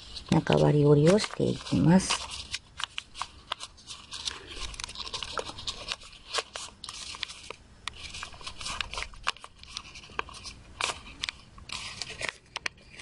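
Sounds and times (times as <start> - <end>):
paper crackling and rustling: 0.0 - 13.0.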